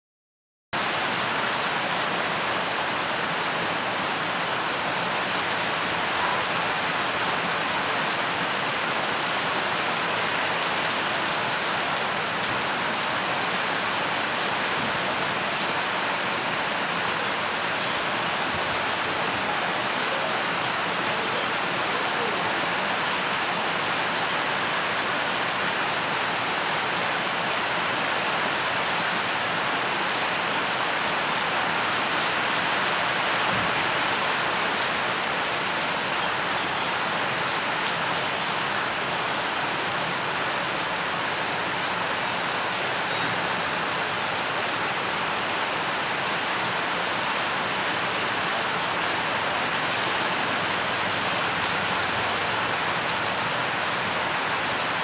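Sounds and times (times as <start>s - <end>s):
heavy rain splashing on water: 0.8s - 55.0s.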